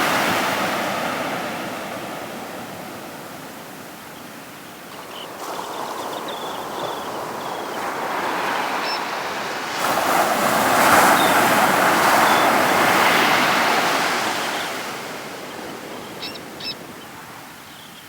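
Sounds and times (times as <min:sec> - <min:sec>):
sea surf breaking on beach: 0:00.0 - 0:17.6.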